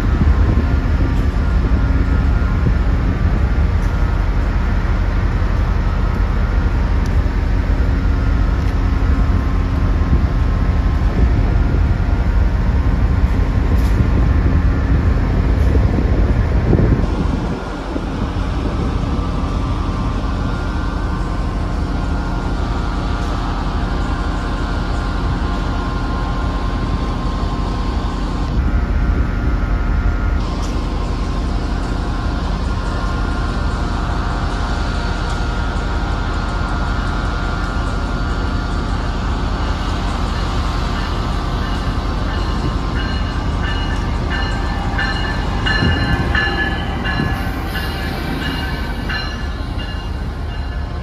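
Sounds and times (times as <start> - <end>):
train low hum: 0.0 - 51.0.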